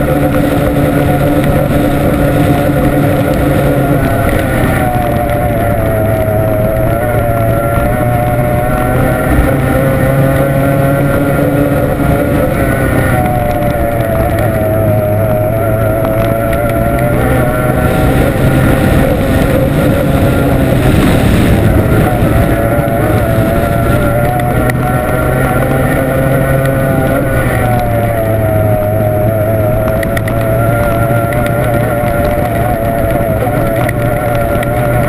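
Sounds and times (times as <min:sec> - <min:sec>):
racing outboard engine: 0:00.0 - 0:35.0
rushing noise: 0:00.0 - 0:35.0.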